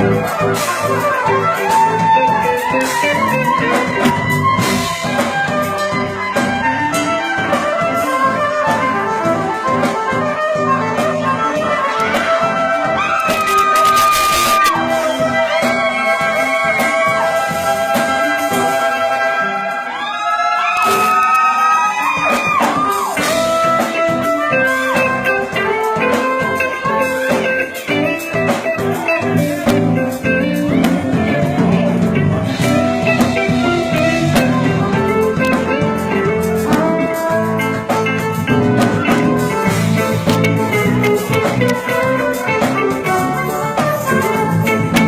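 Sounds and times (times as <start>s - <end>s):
melodic lead line: 0.0s - 19.6s, 22.8s - 45.0s
bass: 0.0s - 20.0s, 20.7s - 45.0s
drum kit: 0.0s - 45.0s.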